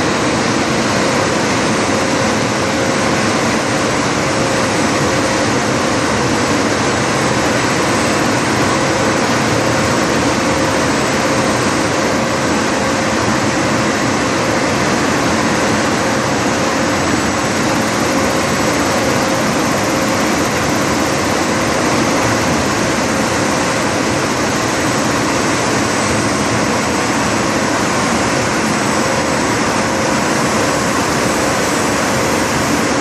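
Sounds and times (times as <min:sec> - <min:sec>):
printing press drone: 0:00.0 - 0:33.0
steady hum: 0:00.0 - 0:33.0.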